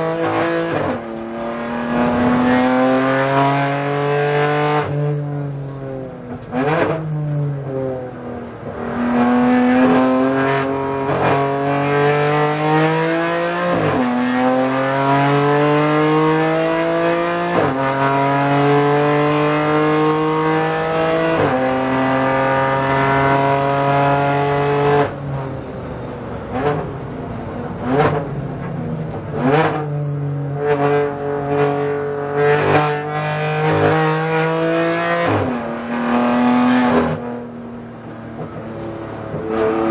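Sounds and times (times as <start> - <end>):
race car engine accelerating: 0.0 - 25.2, 27.7 - 39.9.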